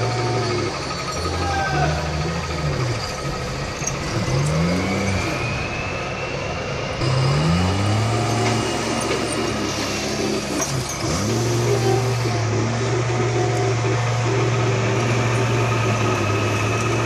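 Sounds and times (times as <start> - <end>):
diesel engine revving: 0.0 - 17.0
faint high whine: 0.0 - 17.0.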